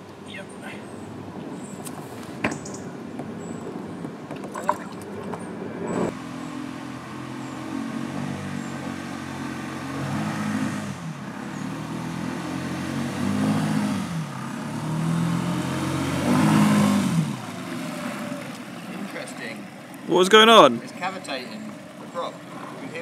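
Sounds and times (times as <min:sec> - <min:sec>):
small outboard motor running: 0:04.3 - 0:23.0.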